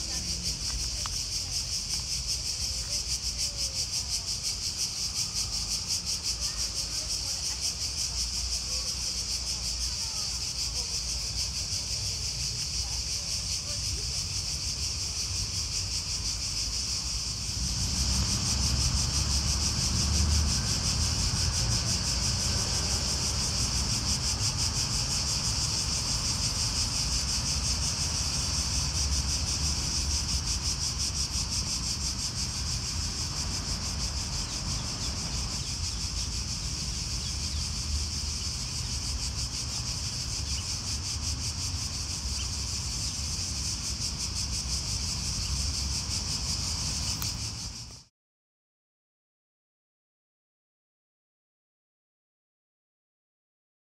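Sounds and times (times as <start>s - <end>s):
insects chorus: 0.0s - 48.1s.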